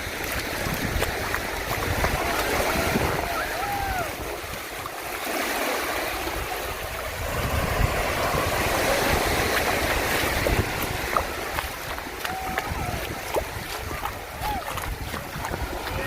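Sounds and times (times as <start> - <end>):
wind buffeting microphone: 0.0 - 4.9, 6.1 - 16.0
sea waves washing onto beach: 0.0 - 16.0.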